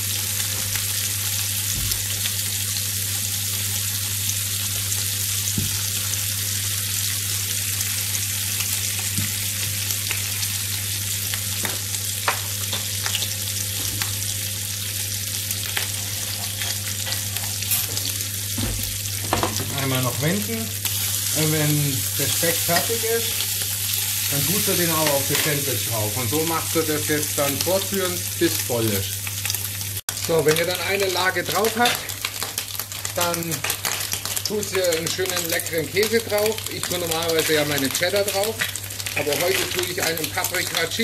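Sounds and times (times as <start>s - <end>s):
bacon sizzling in a frying pan: 0.0s - 41.0s.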